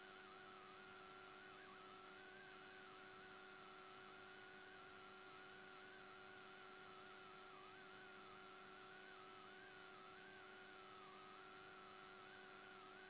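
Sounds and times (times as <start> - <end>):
faint hiss: 0.0 - 13.0
thin wavering whine: 0.0 - 13.0.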